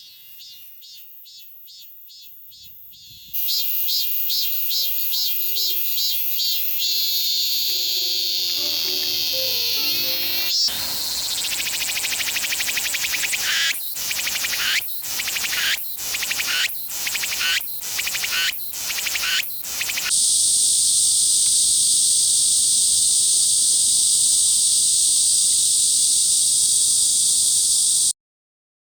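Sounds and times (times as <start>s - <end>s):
cicada repeating high phrase: 0.0s - 28.1s
cicada continuous high buzz: 0.0s - 28.2s.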